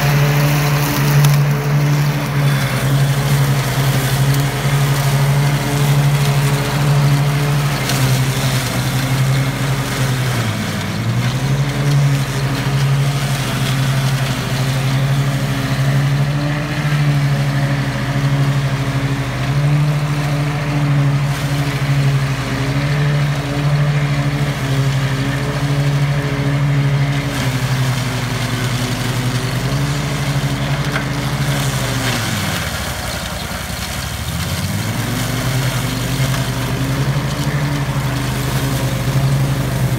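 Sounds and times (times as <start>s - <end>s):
blades cutting brush: 0.0s - 39.9s
mower engine labouring: 0.0s - 39.9s.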